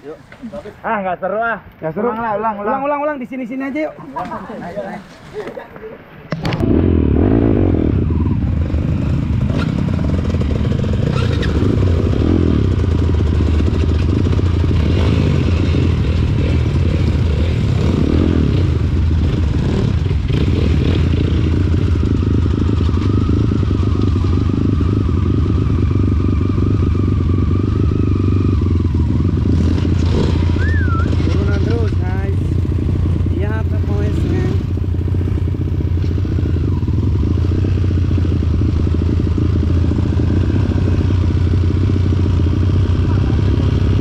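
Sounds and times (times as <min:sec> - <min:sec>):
motorcycle engine running: 0:06.3 - 0:44.0.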